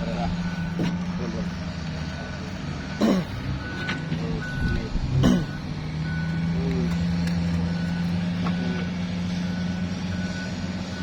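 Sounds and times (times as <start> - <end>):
reversing alarm beeps: 0.0 - 6.6, 7.6 - 11.0
engine drone: 0.0 - 11.0.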